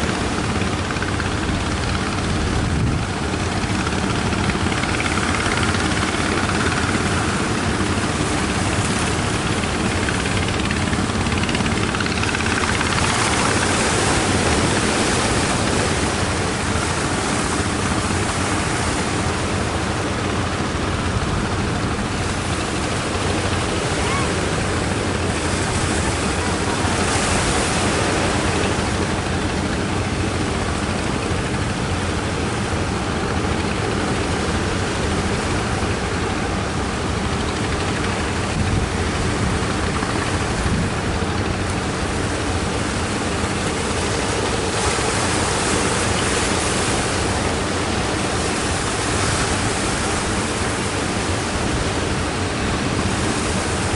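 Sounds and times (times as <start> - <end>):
sea surf washing: 0.0 - 53.9.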